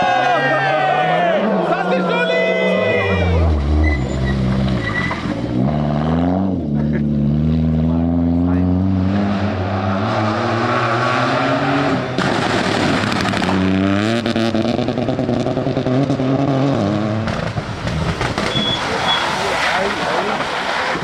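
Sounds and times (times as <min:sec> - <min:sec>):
rally car engine revving: 0:01.0 - 0:21.0.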